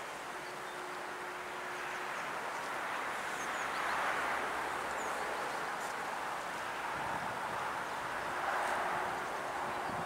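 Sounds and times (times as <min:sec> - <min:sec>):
wind in the trees: 0:00.0 - 0:10.0.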